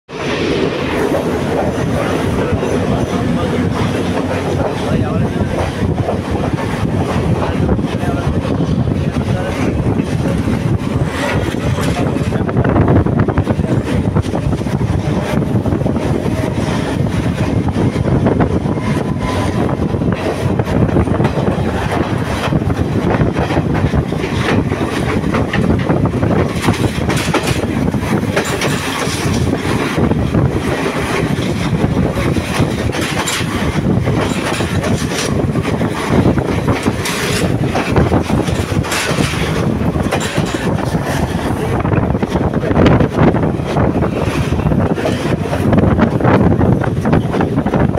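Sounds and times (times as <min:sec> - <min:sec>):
passing train clatter: 0:00.1 - 0:47.9
train wheels rumbling and rattling: 0:00.1 - 0:47.9.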